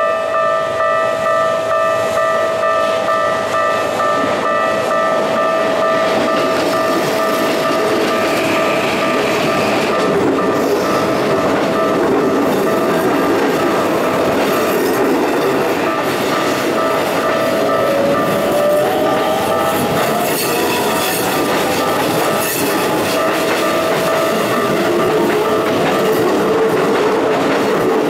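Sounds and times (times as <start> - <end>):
level crossing warning bell: 0.0 - 27.4
train wheels clattering on rails: 0.7 - 28.0.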